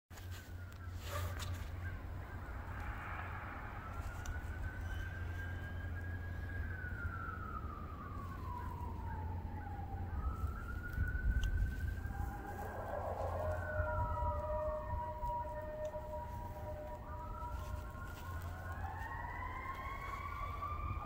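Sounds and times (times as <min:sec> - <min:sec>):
fire engine siren wailing: 0:00.2 - 0:21.0
low rumble: 0:01.7 - 0:21.0.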